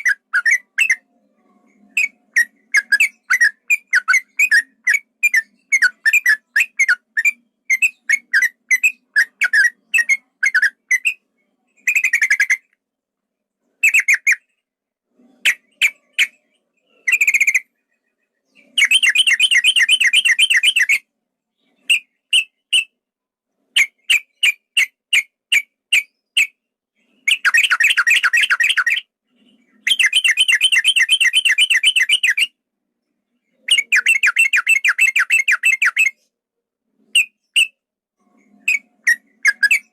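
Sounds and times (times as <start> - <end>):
bird chirping and trilling: 0.0 - 12.7, 13.8 - 14.6, 15.2 - 23.0, 23.7 - 36.3, 37.1 - 39.9.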